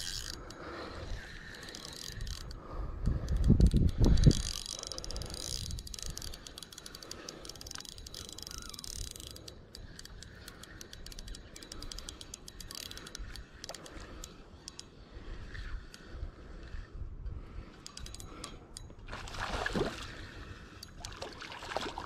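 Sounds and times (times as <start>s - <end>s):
fishing reel clicking: 0.0s - 19.1s, 20.0s - 21.2s.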